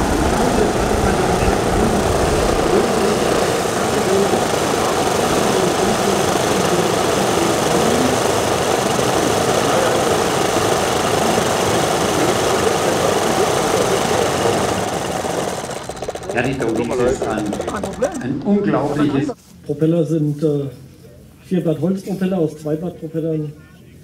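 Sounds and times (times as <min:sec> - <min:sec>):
model glow engines droning: 0:00.0 - 0:19.4.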